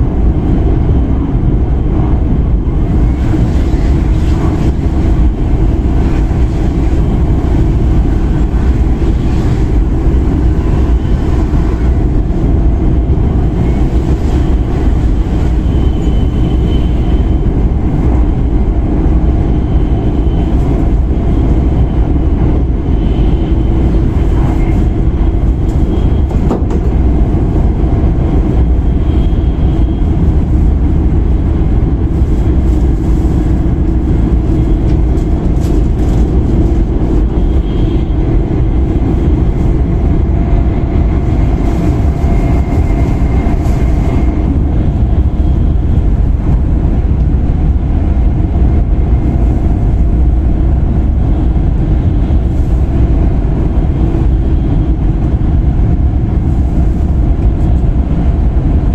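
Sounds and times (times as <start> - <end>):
train wheels rumbling: 0.0 - 58.9.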